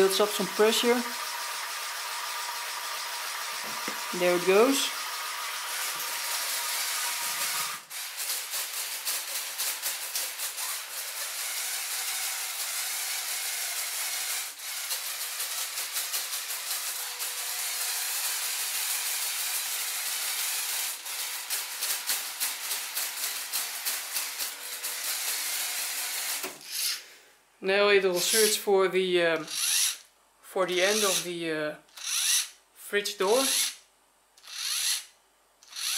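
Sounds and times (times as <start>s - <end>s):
robot motors whirring and ticking: 0.4s - 27.0s, 28.2s - 28.6s, 29.4s - 30.0s, 30.9s - 31.2s, 31.9s - 32.5s, 33.4s - 33.8s, 34.4s - 35.9s.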